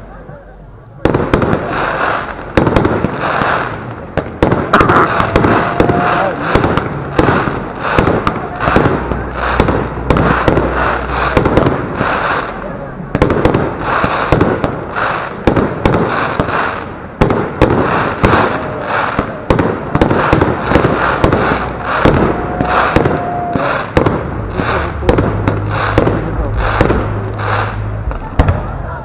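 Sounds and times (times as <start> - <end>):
fireworks bursting: 0.0 - 29.0
fireworks crackle: 0.0 - 29.0.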